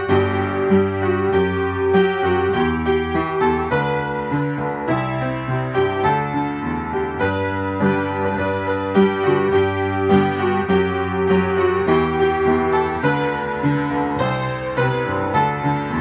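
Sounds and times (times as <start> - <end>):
solo piano hymn: 0.0 - 16.0.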